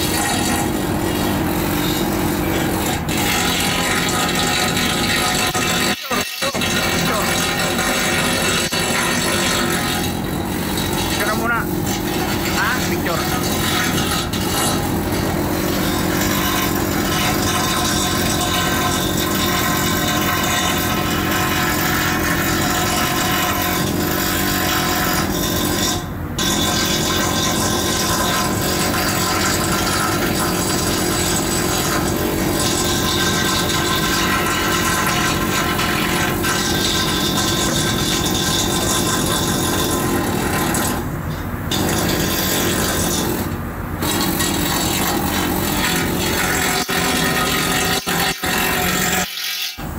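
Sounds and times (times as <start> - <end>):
loud rasping machinery drone: 0.0 - 49.9.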